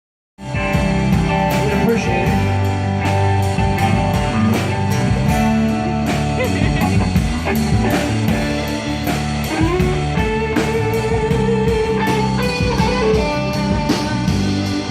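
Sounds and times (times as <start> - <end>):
live blues-rock band playing: 0.4 - 14.9.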